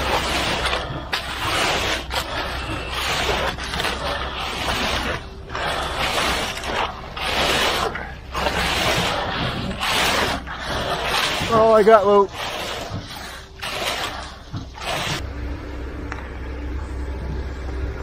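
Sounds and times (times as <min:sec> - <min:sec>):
rakes scraping wet concrete: 0:00.0 - 0:15.2
low hum: 0:00.0 - 0:18.0.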